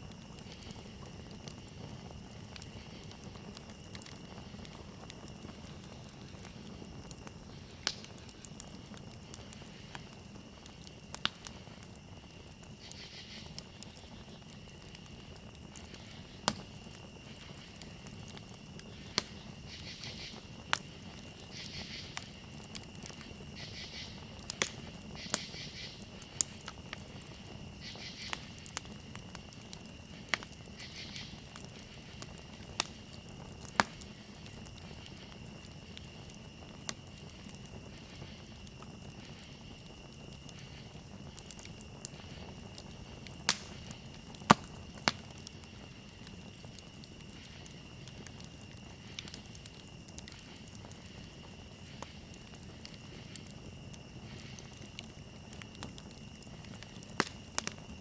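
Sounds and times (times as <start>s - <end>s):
campfire burning: 0.0s - 58.0s
wood crackling and popping: 0.0s - 58.0s.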